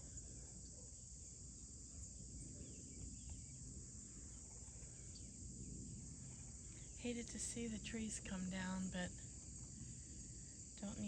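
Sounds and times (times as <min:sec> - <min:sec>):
faint low outdoor rumble: 0:00.0 - 0:11.0.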